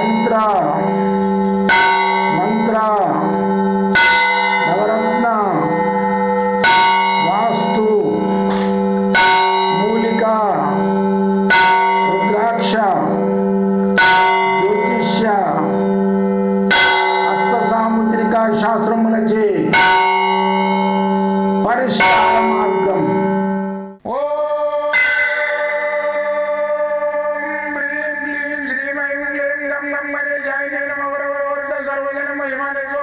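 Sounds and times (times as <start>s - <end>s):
bell strikes ringing: 0.0s - 24.0s, 24.9s - 27.8s.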